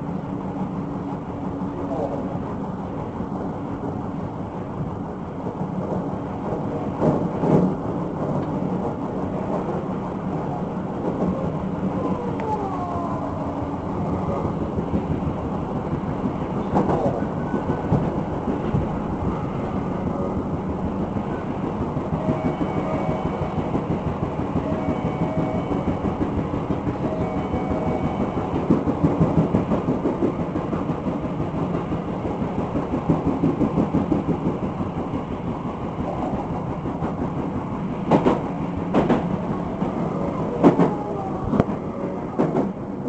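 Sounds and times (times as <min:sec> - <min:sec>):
train clattering: 0:00.0 - 0:43.0
train wheels rumbling on rail: 0:00.0 - 0:43.0.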